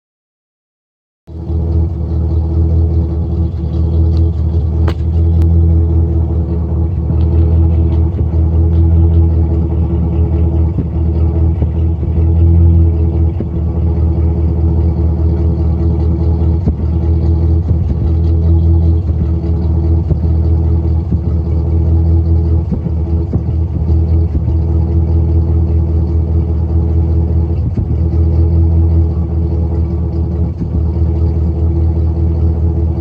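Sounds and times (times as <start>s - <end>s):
car engine idling: 1.3s - 33.0s
irregular exhaust blips: 1.3s - 33.0s.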